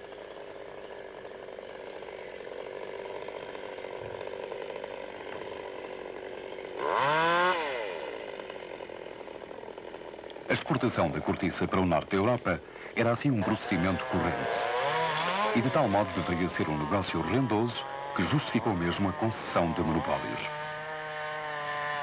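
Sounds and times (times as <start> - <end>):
chainsaw engine revving: 0.0 - 22.0.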